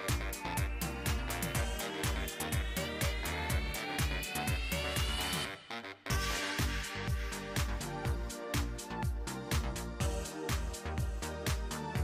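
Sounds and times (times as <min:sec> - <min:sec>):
kick drum beat: 0:00.0 - 0:05.4, 0:06.1 - 0:12.0.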